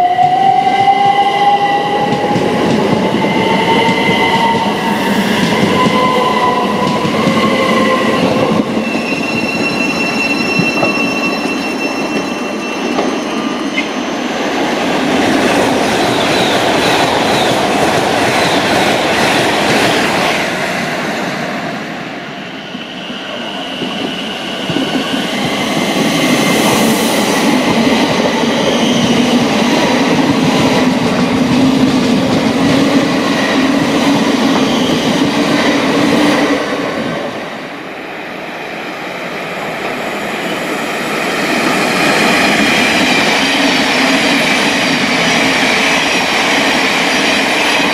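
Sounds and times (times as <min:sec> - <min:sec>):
train rumble and rail noise: 0:00.0 - 0:47.9
train rushing past: 0:00.0 - 0:47.9.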